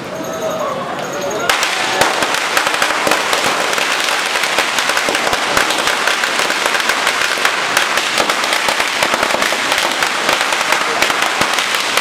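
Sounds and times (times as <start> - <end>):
firecrackers crackling: 1.4 - 12.0.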